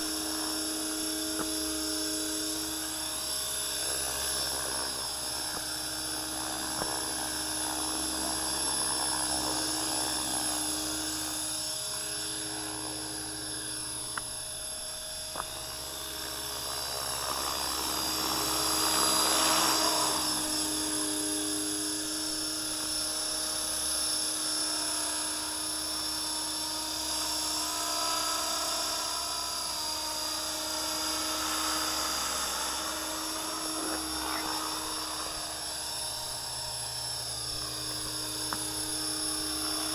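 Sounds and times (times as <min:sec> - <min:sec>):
rc helicopter motor whine: 0:00.0 - 0:39.9
rotor hum: 0:00.0 - 0:39.9.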